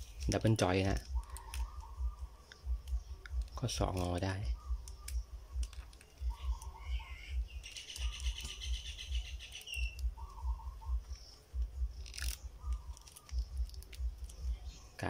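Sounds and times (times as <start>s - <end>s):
bird trill: 0.0s - 15.0s
small birds chirping: 0.0s - 15.0s.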